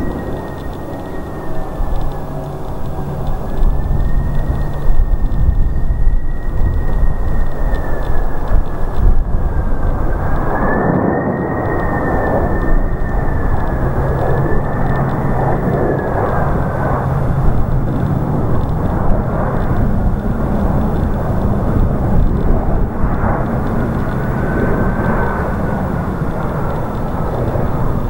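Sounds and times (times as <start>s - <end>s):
high fan whine: 0.0s - 28.0s
jet engine rumble: 0.0s - 28.0s.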